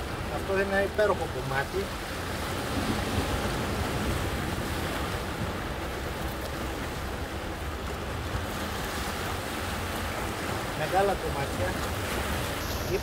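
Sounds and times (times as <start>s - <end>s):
surf washing over rocks: 0.0s - 13.0s
wind rumbling on microphone: 0.0s - 13.0s.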